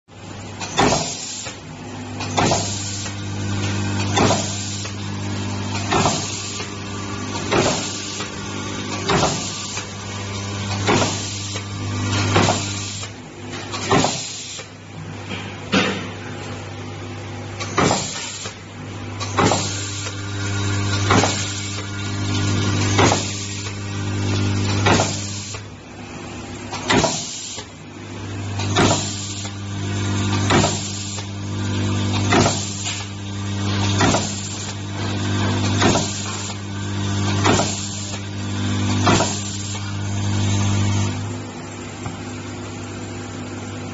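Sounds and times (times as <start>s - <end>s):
machine hum: 1.7s - 13.9s, 18.6s - 26.9s, 27.8s - 43.9s.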